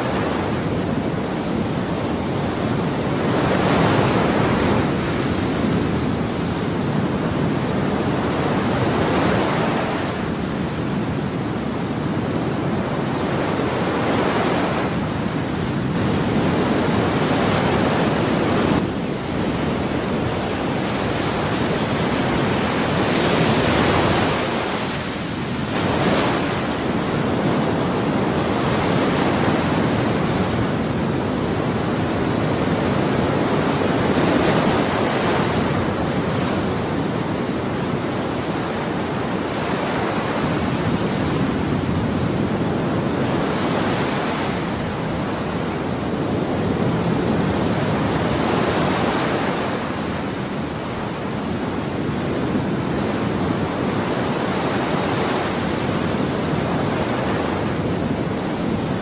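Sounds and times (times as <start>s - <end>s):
ocean surf washing: 0.0s - 59.0s
waves breaking: 0.0s - 59.0s.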